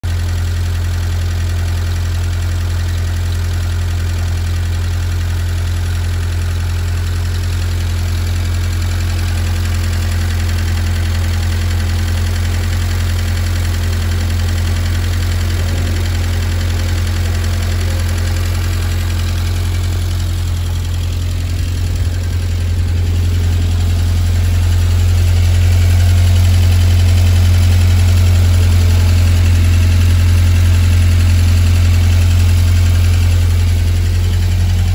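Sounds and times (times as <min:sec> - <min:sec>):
engine idling with noisy tappet: 0:00.0 - 0:34.9.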